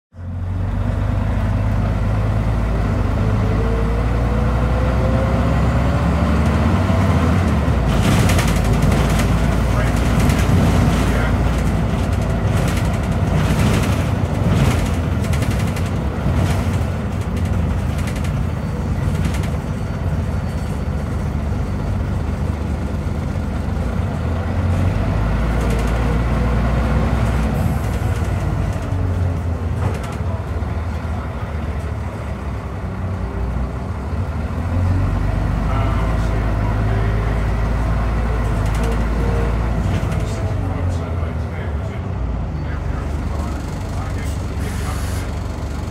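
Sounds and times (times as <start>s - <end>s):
bus diesel engine heard from inside: 0.1s - 45.9s.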